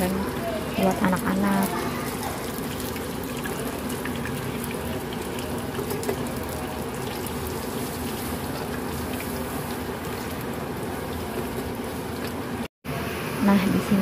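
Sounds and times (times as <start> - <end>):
chicken frying in hot oil: 0.0 - 14.0
oil popping: 1.0 - 12.6.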